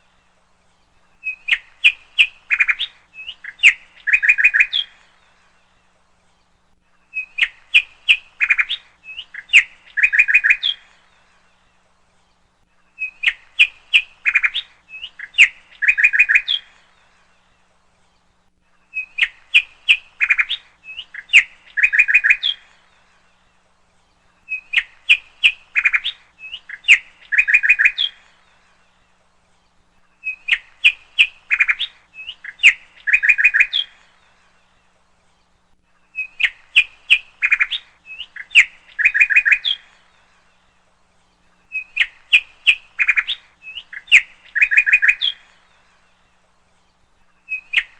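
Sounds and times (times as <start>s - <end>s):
bird chirps and trills: 0.0s - 47.9s.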